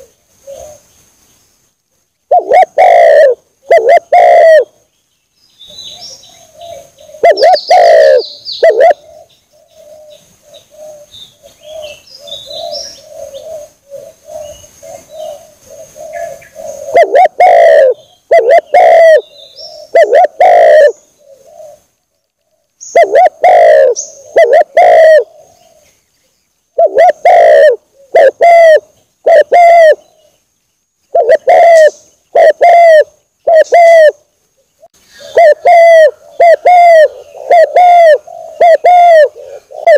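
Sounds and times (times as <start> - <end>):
dove cooing: 0.0 - 0.9, 2.3 - 4.8, 5.7 - 26.0, 26.8 - 30.4, 31.1 - 39.9
small birds chirping: 3.6 - 39.9.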